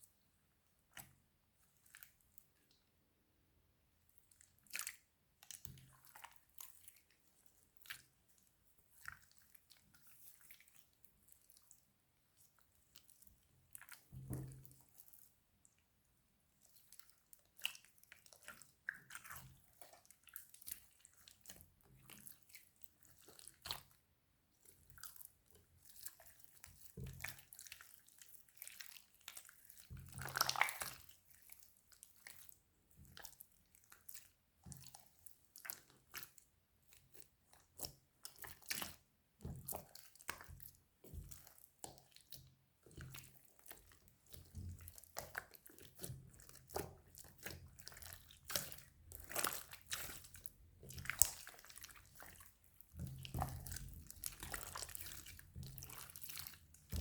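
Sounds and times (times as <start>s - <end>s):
slime squelch: 0.0s - 3.0s, 4.1s - 57.0s.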